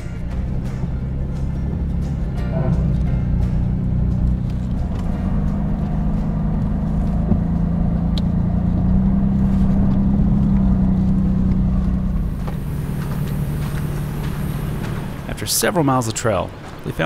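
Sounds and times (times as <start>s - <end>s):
suv engine running: 0.0s - 17.0s.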